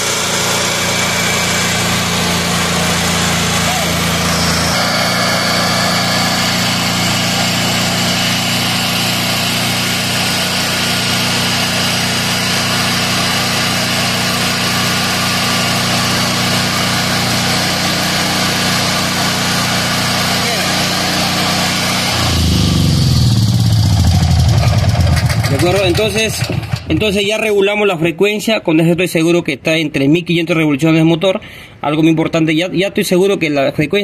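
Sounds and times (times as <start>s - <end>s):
generator engine running: 0.0s - 27.5s.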